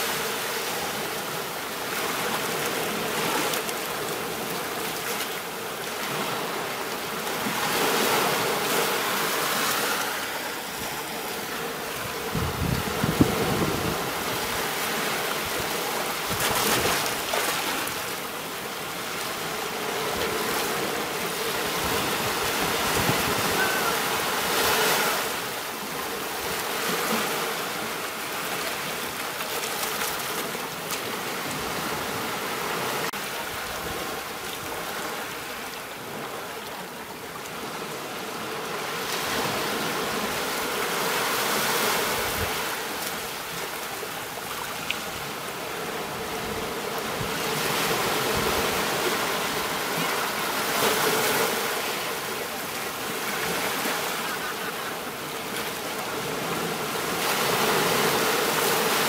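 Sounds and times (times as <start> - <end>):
small waves washing onto shore: 0.0 - 59.0.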